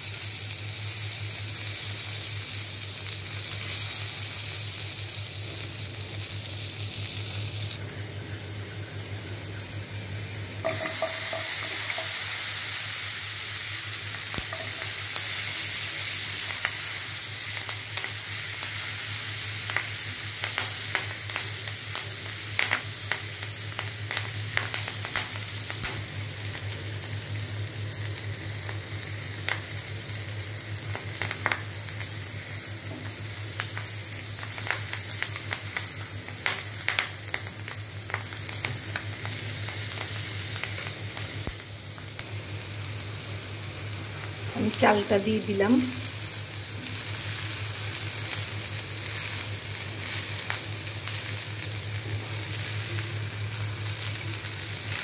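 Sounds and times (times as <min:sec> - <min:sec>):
chillies sizzling in hot fat: 0:00.0 - 0:55.0.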